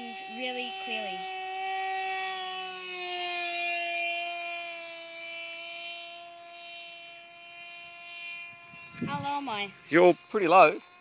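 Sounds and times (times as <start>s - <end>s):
electric motor and propeller whine: 0.0s - 11.0s.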